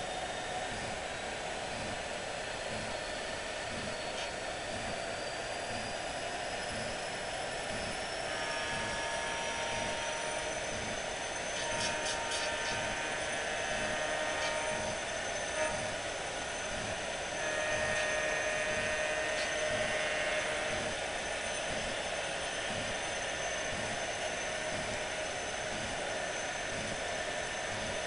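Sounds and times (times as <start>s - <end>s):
model locomotive diesel engine sound: 0.0s - 28.0s.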